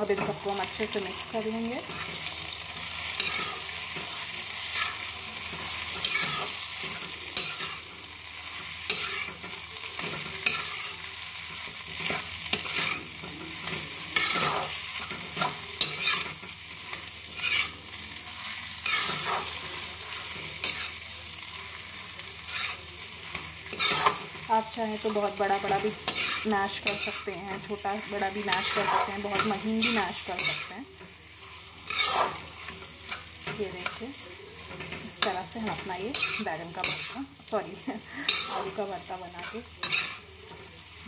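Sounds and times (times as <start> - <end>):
metal spatula scraping a pan: 0.0 - 40.7
hot oil sizzling: 0.0 - 41.0.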